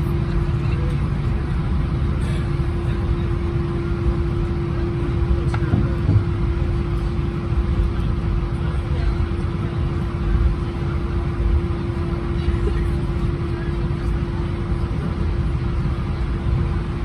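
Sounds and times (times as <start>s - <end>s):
mid-pitched hum: 0.0s - 17.0s.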